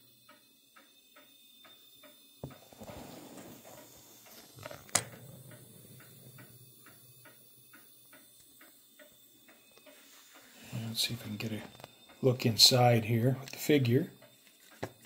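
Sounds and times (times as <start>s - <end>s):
faint even ticking: 0.0s - 15.0s.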